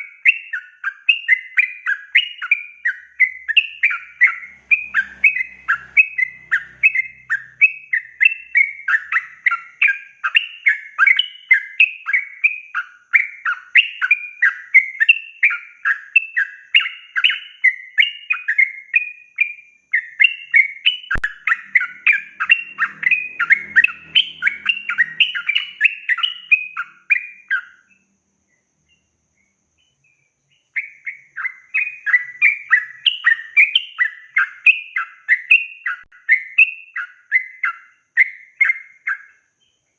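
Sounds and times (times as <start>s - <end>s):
bird singing chirpy phrases: 0.0s - 39.9s.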